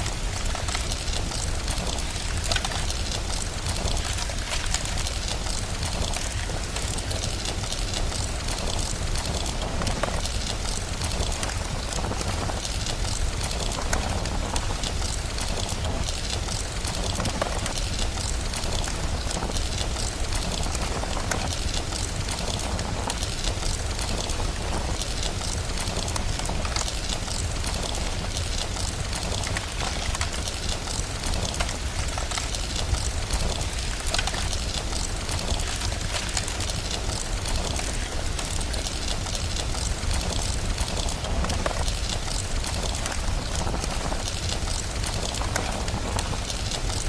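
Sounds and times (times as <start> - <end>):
steady rain hiss: 0.0 - 47.0.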